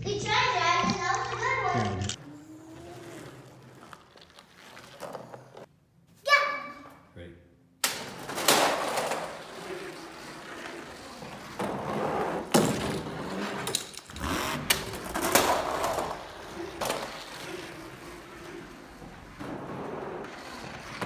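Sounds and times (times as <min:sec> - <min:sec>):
toy trucks rolling on plastic track: 0:01.1 - 0:05.7, 0:07.8 - 0:21.0.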